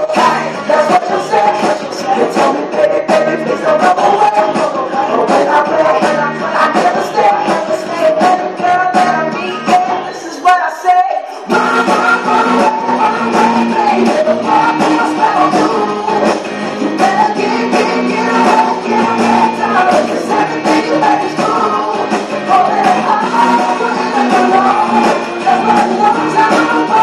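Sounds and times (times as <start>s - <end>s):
person singing over a beat: 0.0s - 27.0s.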